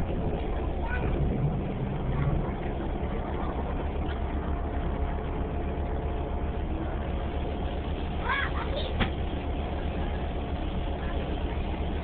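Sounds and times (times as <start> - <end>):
bus drivetrain droning: 0.0 - 12.0.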